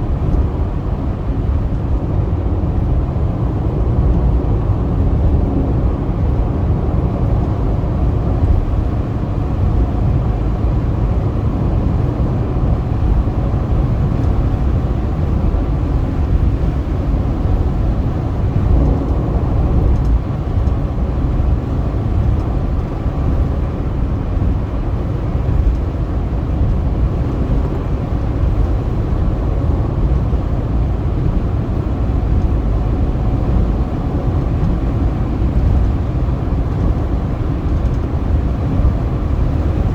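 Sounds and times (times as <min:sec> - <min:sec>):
car driving on highway: 0:00.0 - 0:39.9.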